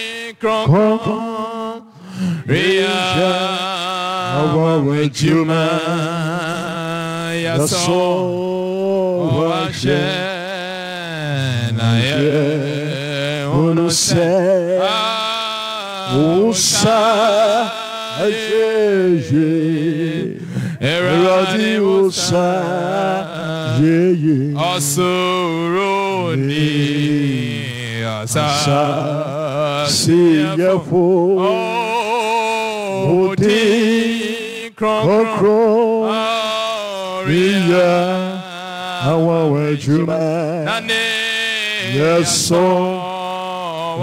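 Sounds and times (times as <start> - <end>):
man chanting into microphone: 0.0 - 44.0.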